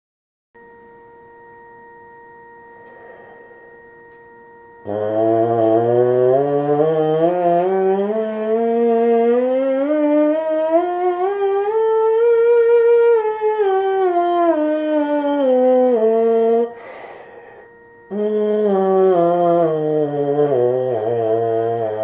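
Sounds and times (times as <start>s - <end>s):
trombone mouthpiece buzzing: 2.6s - 22.0s.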